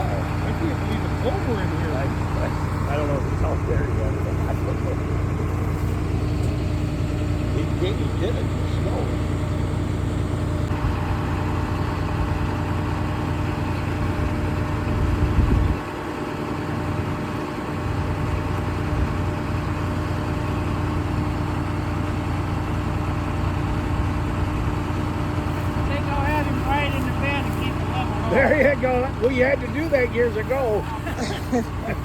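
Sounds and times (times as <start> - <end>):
combine harvester engine humming: 0.0 - 32.0.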